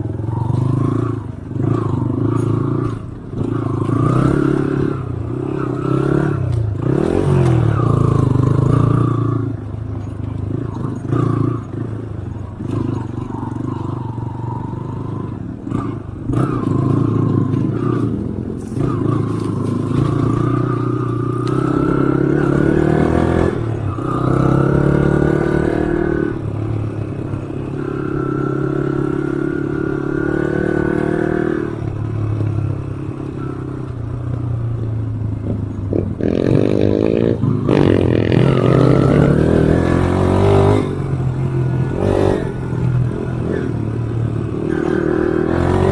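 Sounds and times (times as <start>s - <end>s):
off-road motorcycle engine: 0.0s - 45.9s.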